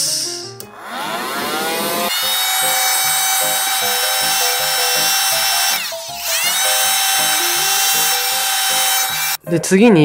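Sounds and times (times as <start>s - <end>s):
handheld vacuum cleaner whine: 0.7s - 9.4s.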